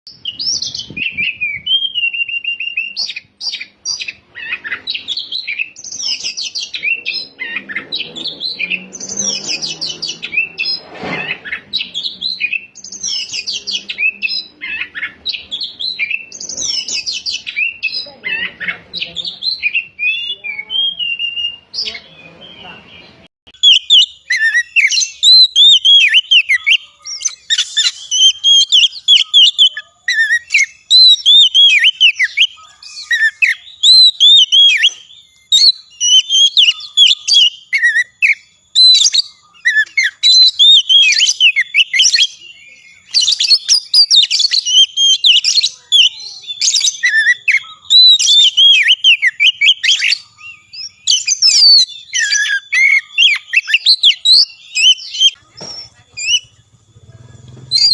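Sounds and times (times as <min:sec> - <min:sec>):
bird singing whistled notes: 0:00.1 - 0:57.9.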